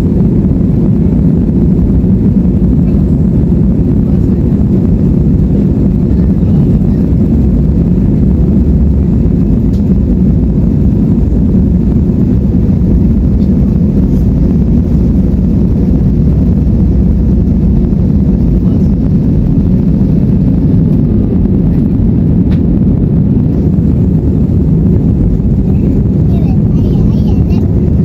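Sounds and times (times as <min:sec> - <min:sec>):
jet cabin rumble: 0:00.0 - 0:28.0.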